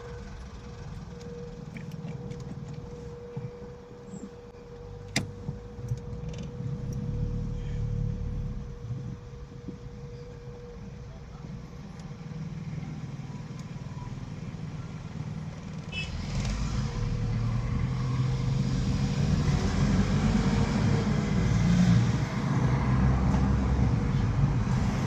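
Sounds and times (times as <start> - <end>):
car engine running: 0.0 - 22.6
road noise: 0.0 - 25.0.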